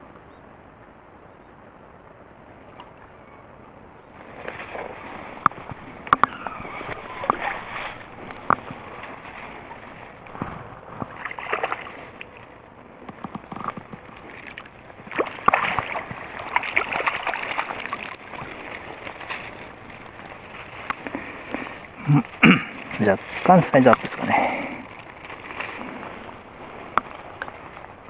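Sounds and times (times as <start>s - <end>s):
fish splashing in water: 4.2s - 28.0s.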